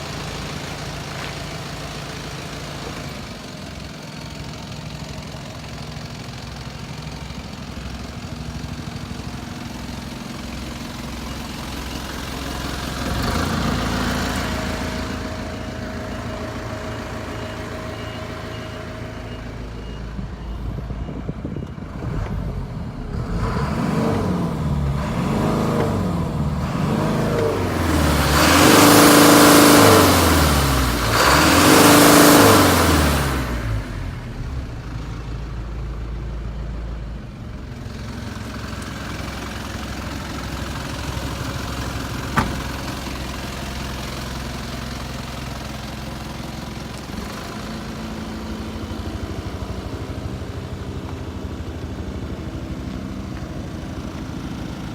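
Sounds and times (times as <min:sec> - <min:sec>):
truck engine idling and revving: 0:00.0 - 0:54.9.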